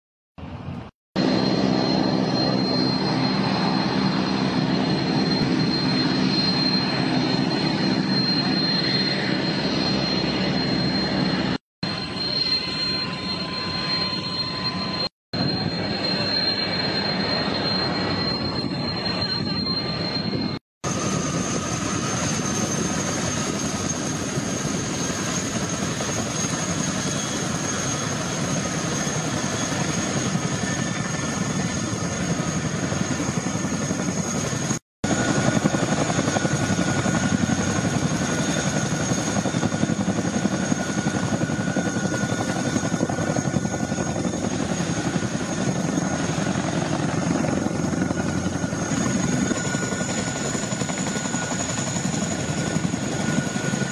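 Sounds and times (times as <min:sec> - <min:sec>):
helicopter turbine engines running: 0:00.5 - 0:53.9
high thin turbine whine: 0:00.5 - 0:53.9.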